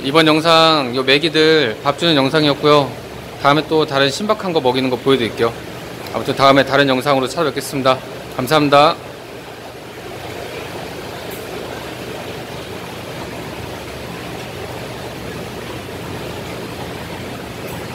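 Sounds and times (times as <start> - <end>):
rushing water: 0.0 - 17.9.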